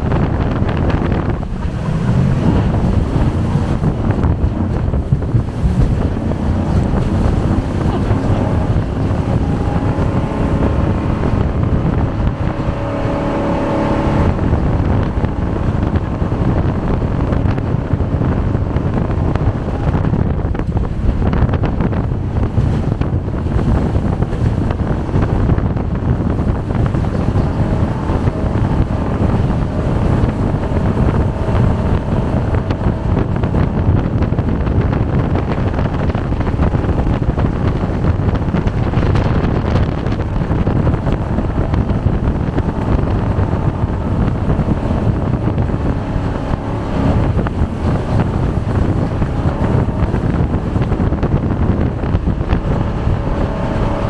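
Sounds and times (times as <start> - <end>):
jet boat engine and water noise: 0.0 - 54.0
wind buffeting microphone: 0.0 - 54.0.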